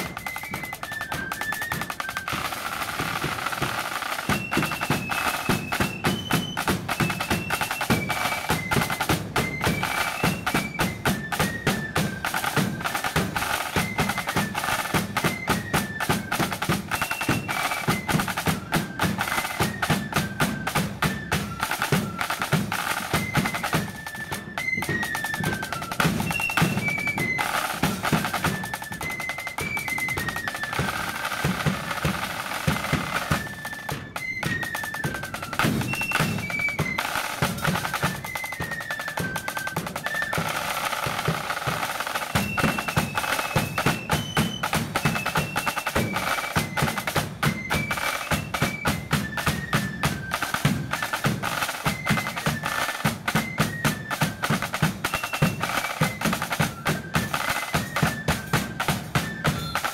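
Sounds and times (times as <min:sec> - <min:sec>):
flutes playing melody: 0:00.0 - 0:59.9
snare drum rolls: 0:00.0 - 0:59.9.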